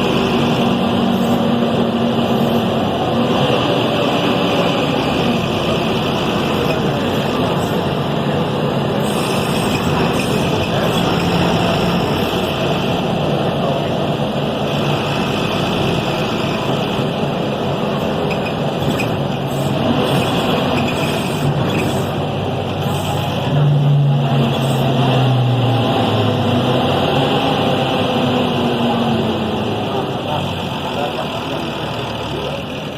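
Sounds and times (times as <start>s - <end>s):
bus diesel engine running: 0.0s - 32.9s.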